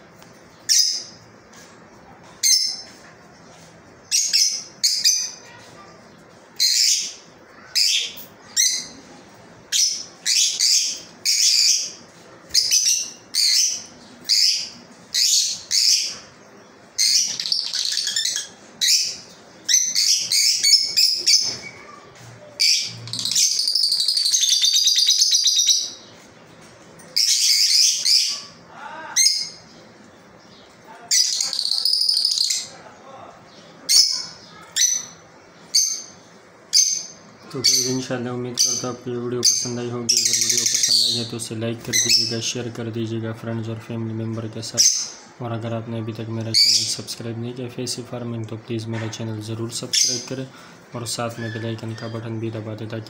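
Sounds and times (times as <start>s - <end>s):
birds fast chattering: 0.0s - 53.0s
lovebirds chirping: 0.0s - 53.0s.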